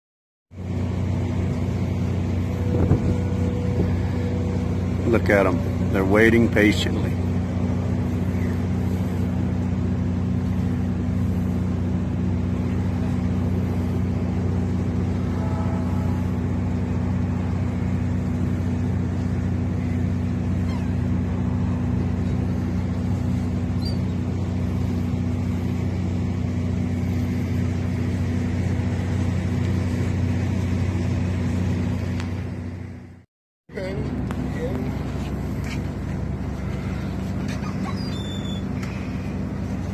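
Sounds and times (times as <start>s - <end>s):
boat engine running: 0.5s - 39.9s.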